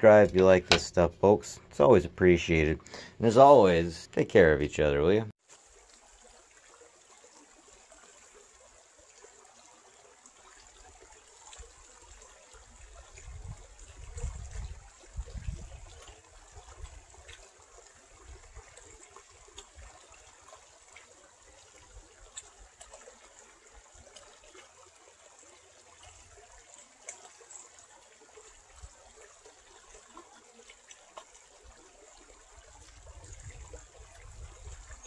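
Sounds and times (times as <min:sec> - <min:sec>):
creek trickling over stones: 0:00.0 - 0:04.5, 0:05.4 - 0:35.0
small water splashes: 0:05.4 - 0:35.0.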